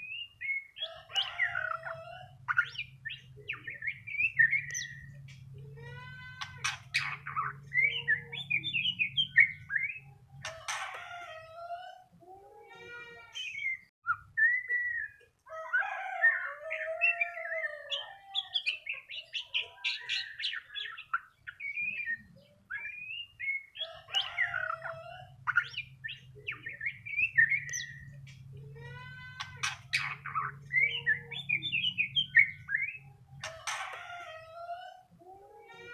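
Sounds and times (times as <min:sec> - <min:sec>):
songbird singing: 0:00.0 - 0:12.4, 0:13.2 - 0:35.9.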